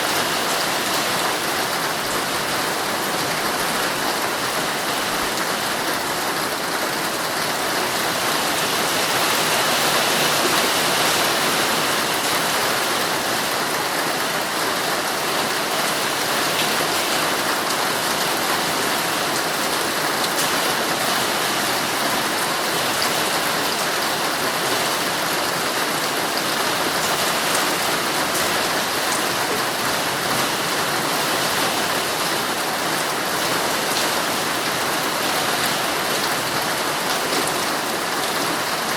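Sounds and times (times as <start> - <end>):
heavy rain drumming on tent fabric: 0.0 - 38.9.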